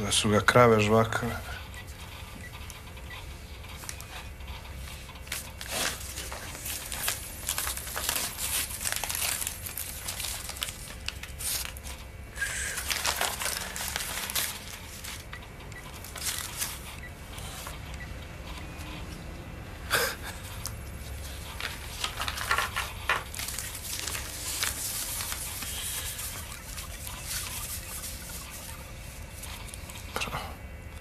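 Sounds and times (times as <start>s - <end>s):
banknotes rustling: 3.4s - 19.4s, 20.3s - 30.1s.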